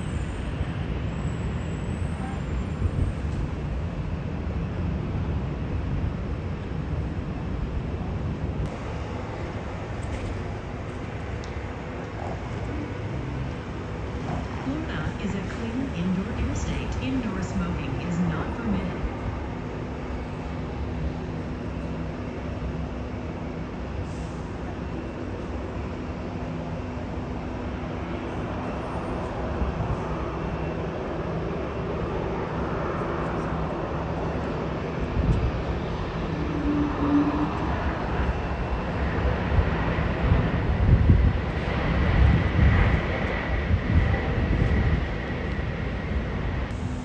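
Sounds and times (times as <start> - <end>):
high engine whine: 0.0 - 47.0
jet engine rumbling: 0.0 - 47.0.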